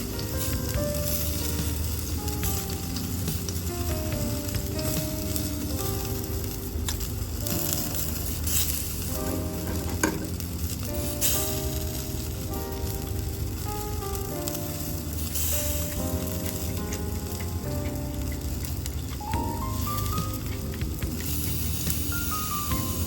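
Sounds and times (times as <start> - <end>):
light background music: 0.0 - 23.0
skewers sizzling on a grill: 0.0 - 23.0.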